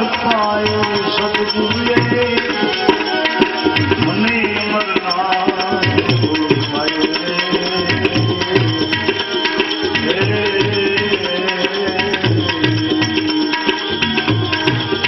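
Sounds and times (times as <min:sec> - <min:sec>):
sustained melodic tones: 0:00.0 - 0:15.0
tabla rhythm: 0:00.0 - 0:15.0.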